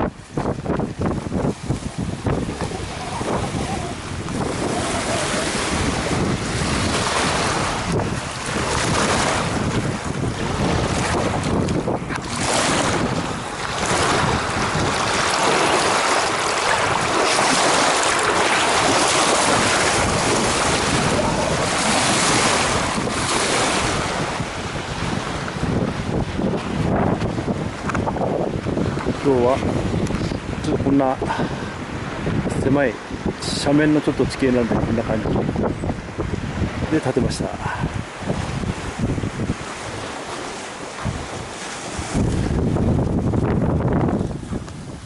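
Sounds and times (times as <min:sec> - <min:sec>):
waves washing ashore: 0:00.0 - 0:45.0
wind buffeting microphone: 0:00.0 - 0:45.0.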